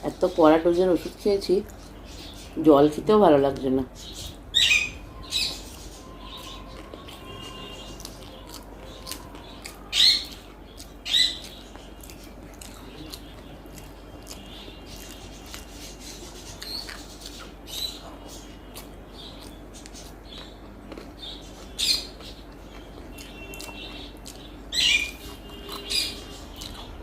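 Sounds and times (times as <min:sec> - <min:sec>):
person chewing and smacking: 0:05.2 - 0:27.0.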